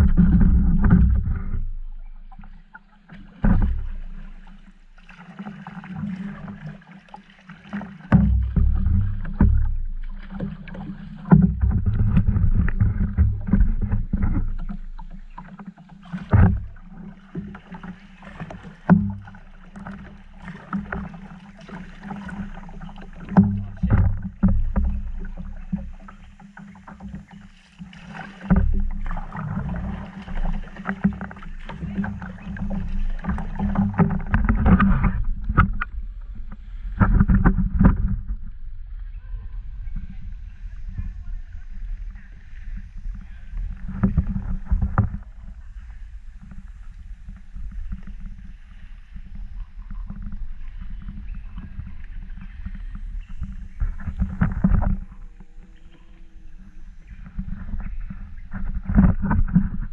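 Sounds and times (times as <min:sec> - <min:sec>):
paddle splashing in water: 0:00.0 - 0:59.9
water washing along hull: 0:00.0 - 0:59.9.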